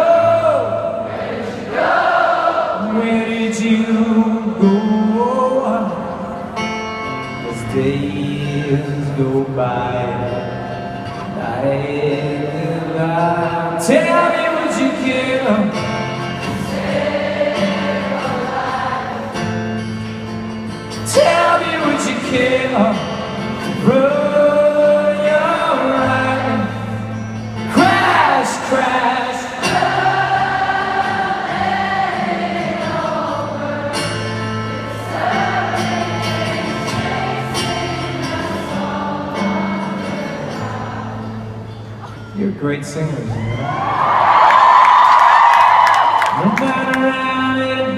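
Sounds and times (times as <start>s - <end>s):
arena crowd: 0.0s - 5.0s, 12.0s - 47.9s
acoustic guitar: 0.0s - 47.9s.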